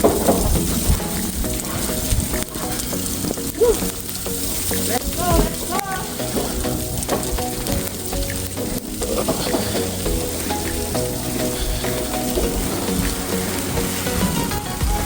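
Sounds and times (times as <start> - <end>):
snow and wind hitting microphone: 0.0 - 15.0.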